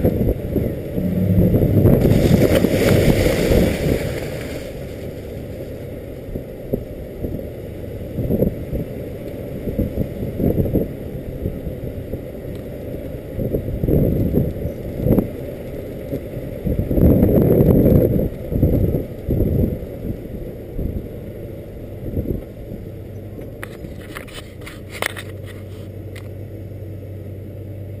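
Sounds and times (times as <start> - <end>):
wind buffeting: 0.0 - 23.1
rumbling road noise: 0.0 - 28.0
steady low hum: 0.0 - 28.0.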